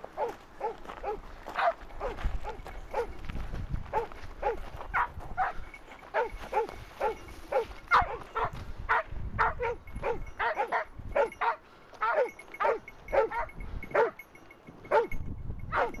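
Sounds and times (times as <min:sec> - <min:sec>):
dog barking: 0:00.2 - 0:03.1, 0:03.9 - 0:05.6, 0:06.2 - 0:14.2, 0:14.9 - 0:16.0.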